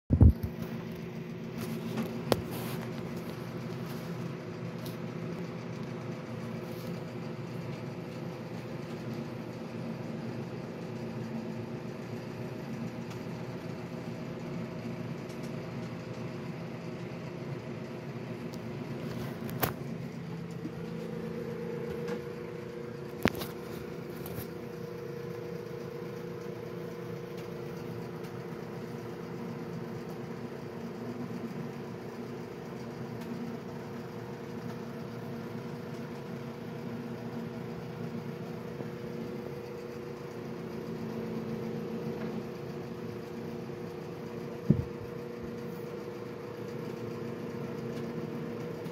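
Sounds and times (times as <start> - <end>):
machine hum with tones: 0.1 - 48.9.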